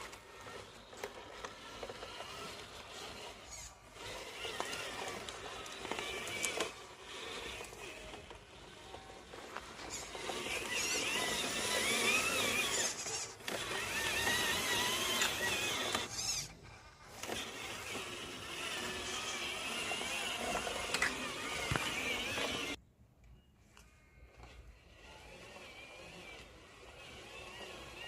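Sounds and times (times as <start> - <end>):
small electric motors whining: 0.0 - 22.8, 23.8 - 28.0.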